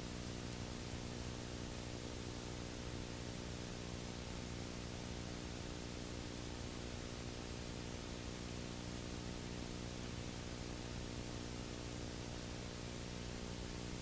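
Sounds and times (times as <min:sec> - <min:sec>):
constant hiss: 0:00.0 - 0:14.0
electrical hum: 0:00.0 - 0:14.0.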